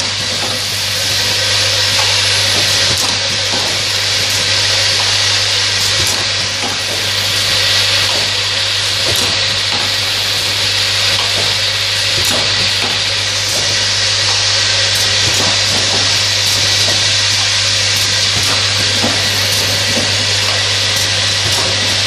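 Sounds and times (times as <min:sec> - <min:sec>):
filling machine hissing: 0:00.0 - 0:22.0
machine low hum: 0:00.0 - 0:22.0.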